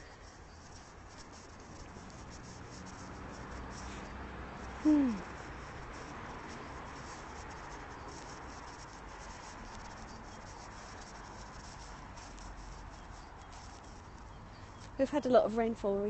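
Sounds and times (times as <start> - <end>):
scratchy rustling on grass: 0.0 - 16.0
steady microphone hiss: 0.0 - 16.0.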